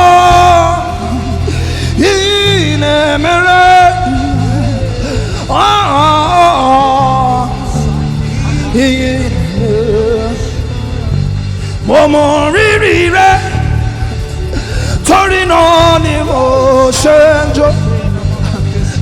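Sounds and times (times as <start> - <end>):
gospel band with bass line: 0.0 - 19.0
person singing: 0.0 - 19.0.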